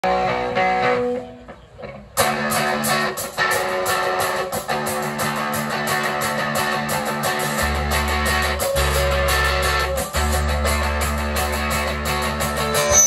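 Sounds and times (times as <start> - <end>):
live rock band playing: 2.2 - 13.0.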